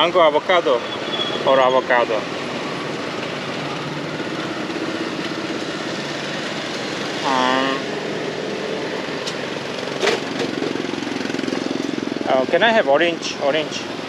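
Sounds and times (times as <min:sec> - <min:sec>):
motorbike engines running: 0:00.0 - 0:14.0
street traffic noise: 0:00.0 - 0:14.0.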